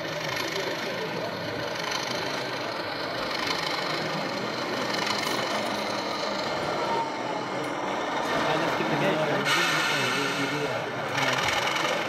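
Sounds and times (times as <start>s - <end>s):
model locomotive running: 0.0s - 12.0s.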